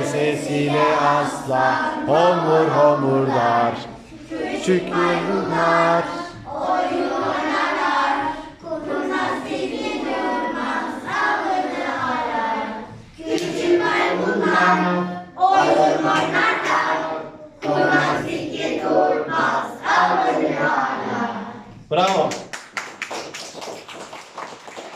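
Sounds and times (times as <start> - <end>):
group singing children's song: 0.0 - 22.0.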